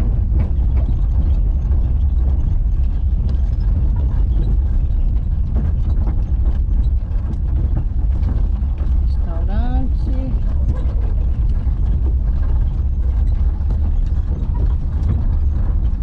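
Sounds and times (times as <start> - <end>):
rattles and knocks: 0.0 - 16.0
vehicle driving rumble: 0.0 - 16.0.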